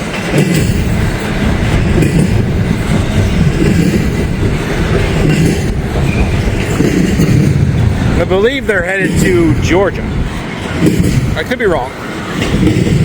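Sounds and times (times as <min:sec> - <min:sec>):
freight train wheels on rails: 0:00.0 - 0:13.0
wind buffeting microphone: 0:00.0 - 0:13.0.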